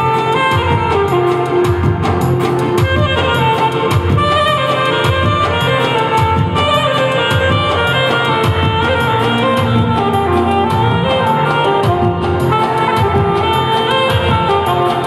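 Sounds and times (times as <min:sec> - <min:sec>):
backing track with steady beat: 0:00.0 - 0:15.0
saxophone melody: 0:00.0 - 0:15.0.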